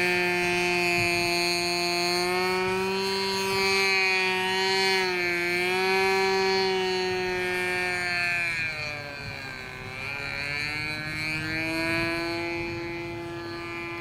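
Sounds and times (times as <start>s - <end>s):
model plane engine in flight: 0.0s - 14.0s.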